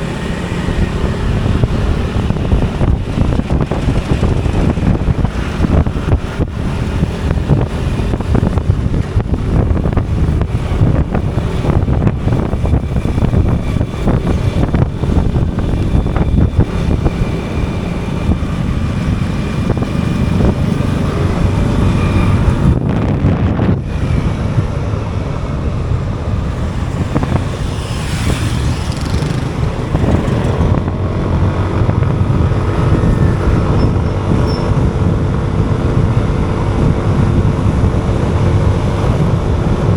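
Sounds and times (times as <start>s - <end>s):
motorcycle engine running: 0.0s - 39.9s
road traffic: 0.0s - 39.9s
wind rumble on microphone: 0.0s - 39.9s.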